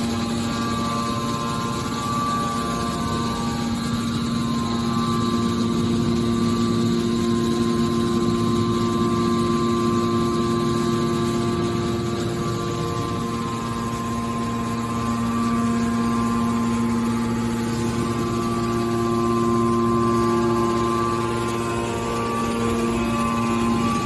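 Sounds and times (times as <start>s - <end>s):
hydraulic baler humming: 0.0s - 24.0s.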